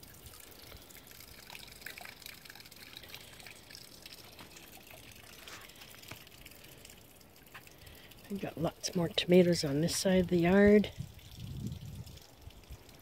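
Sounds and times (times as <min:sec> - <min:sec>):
faint trickling water: 0:00.0 - 0:13.0.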